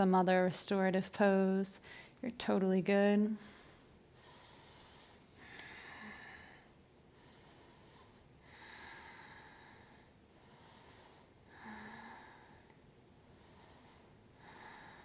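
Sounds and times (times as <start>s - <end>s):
woman breathing: 1.8s - 2.2s, 3.3s - 15.0s.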